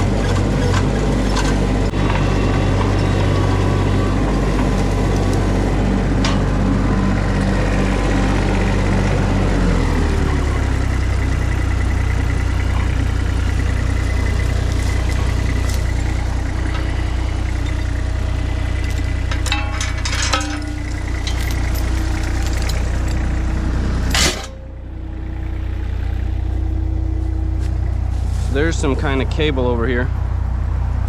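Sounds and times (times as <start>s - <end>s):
mini skid steer engine running: 0.0s - 31.0s.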